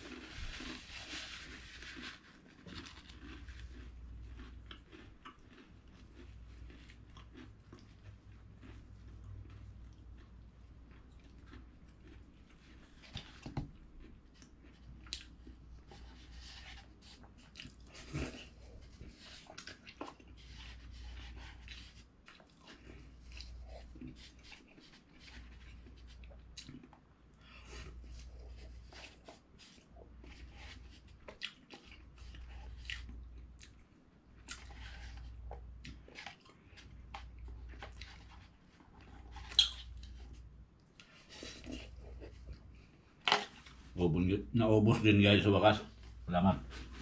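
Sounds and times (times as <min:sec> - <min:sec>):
person chewing and eating: 0:00.0 - 0:44.0.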